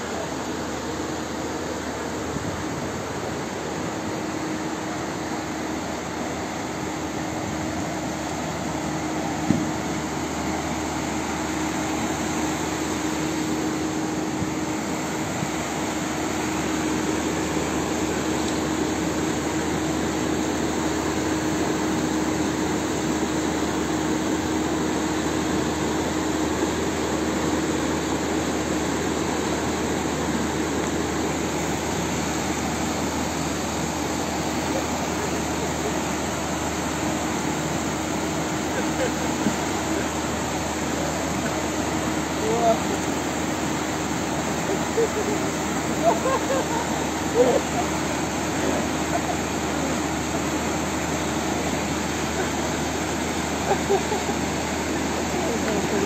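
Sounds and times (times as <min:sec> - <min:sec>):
faint steady hum: 0:00.0 - 0:56.0
floodwater rushing: 0:00.2 - 0:56.0.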